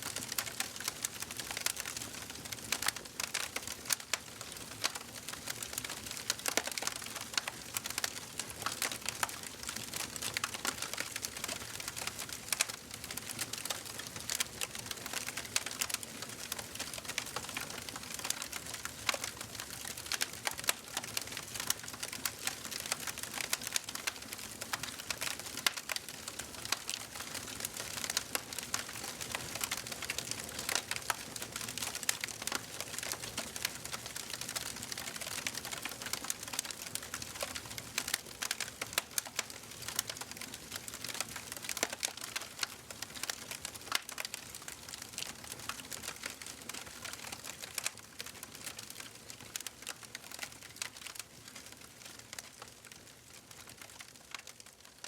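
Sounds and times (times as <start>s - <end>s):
wood fire crackling in fireplace: 0.0s - 55.0s.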